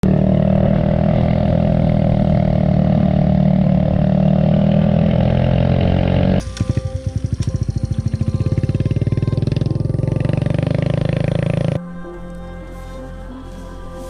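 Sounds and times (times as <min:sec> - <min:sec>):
engine idling with rapid putter: 0:00.0 - 0:11.8
motorcycle engine running: 0:00.0 - 0:14.0.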